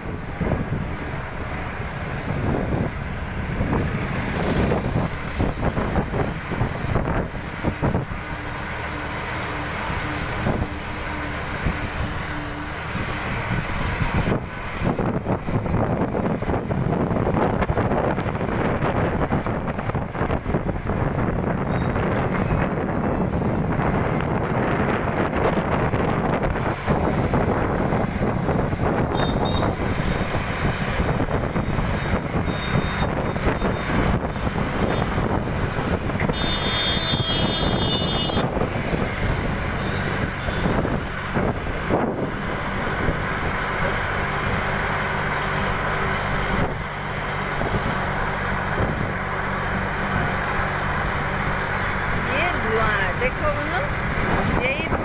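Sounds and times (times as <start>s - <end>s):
bus engine hum: 0.0s - 55.0s
road and wind noise: 0.0s - 55.0s.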